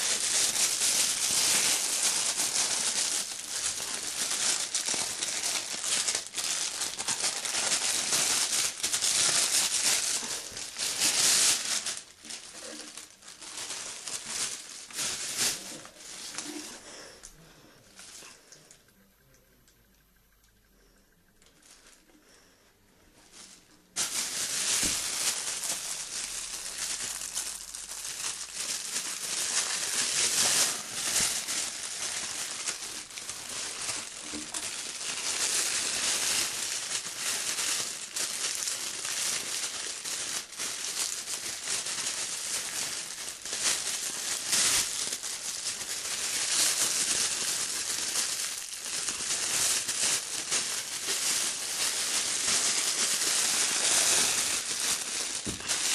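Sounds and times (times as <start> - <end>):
plastic packaging crinkling: 0.0 - 19.4, 21.4 - 22.4, 23.1 - 55.9.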